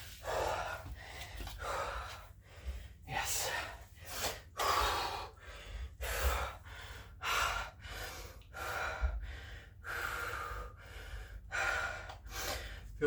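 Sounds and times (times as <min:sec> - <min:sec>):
man breathing hard and gasping: 0:00.1 - 0:13.0.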